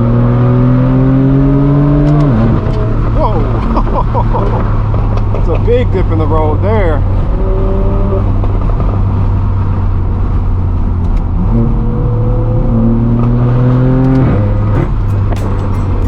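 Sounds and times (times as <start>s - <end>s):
loud car engine revving: 0.0s - 16.0s.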